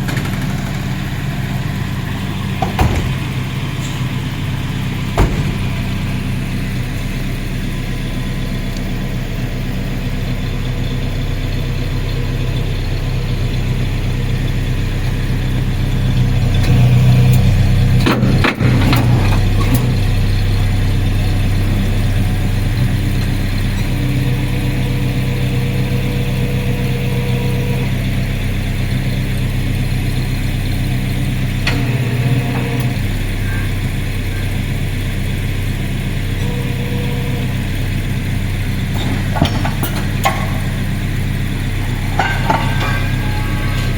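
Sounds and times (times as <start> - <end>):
vehicle engine idling: 0.0 - 43.9.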